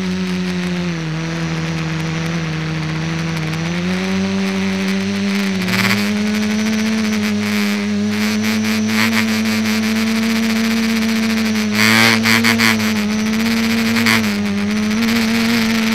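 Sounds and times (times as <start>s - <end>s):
rc aircraft motor buzzing: 0.0s - 15.9s.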